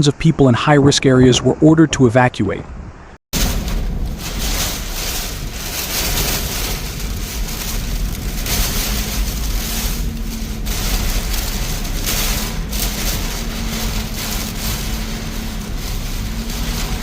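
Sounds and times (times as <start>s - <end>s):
wind gusting: 1.2s - 17.0s
wind rumble on microphone: 2.6s - 17.0s
rain: 3.4s - 17.0s.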